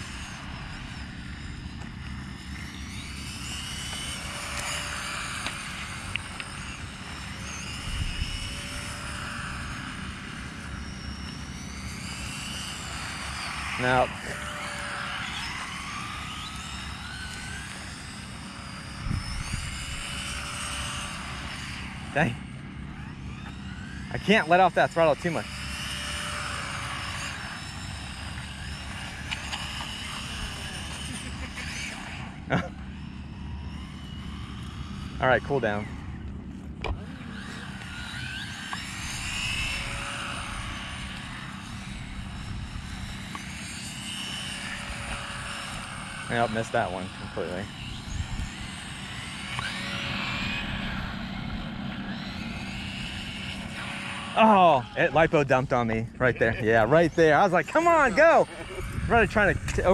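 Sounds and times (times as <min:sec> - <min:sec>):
toy car electric motors whining: 0:00.0 - 0:59.9.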